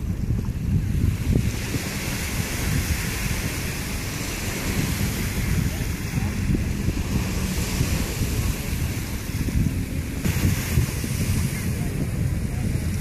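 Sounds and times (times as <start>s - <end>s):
small waves at shore: 0.0s - 13.0s
wind buffeting microphone: 0.0s - 13.0s.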